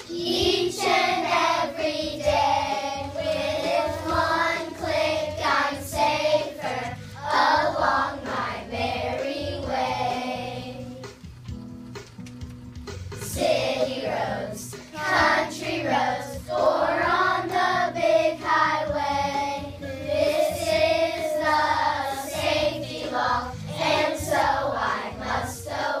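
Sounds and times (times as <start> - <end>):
children singing: 0.0 - 11.2, 13.3 - 26.0
backing track music: 0.0 - 26.0.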